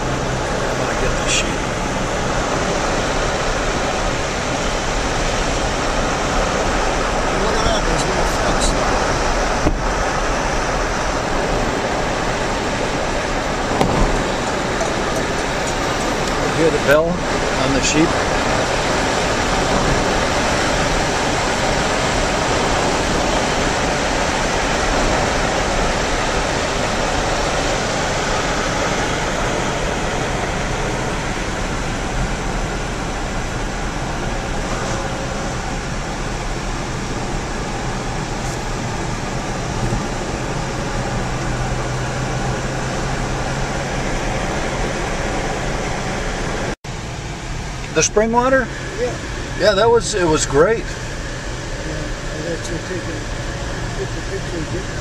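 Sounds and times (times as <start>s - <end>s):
low drone: 0.0s - 55.0s
wind and road noise in car: 0.0s - 55.0s.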